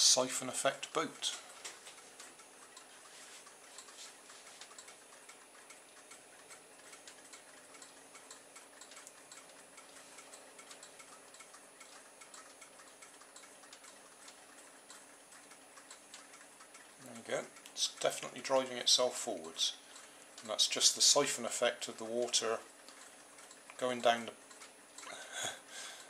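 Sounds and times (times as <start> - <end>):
faint rapid ticking toys: 0.0 - 26.0.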